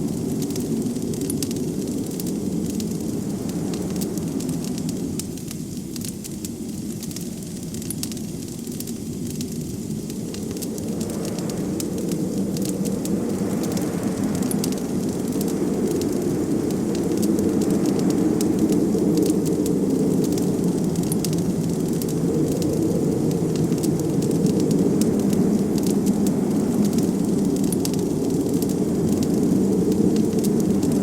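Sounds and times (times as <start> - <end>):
blizzard wind: 0.0 - 31.0
wood fire crackling: 0.0 - 31.0.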